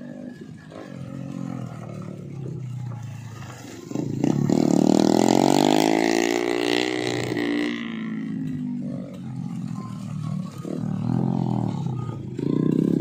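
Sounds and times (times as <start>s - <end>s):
motorbike engine passing: 0.0s - 13.0s.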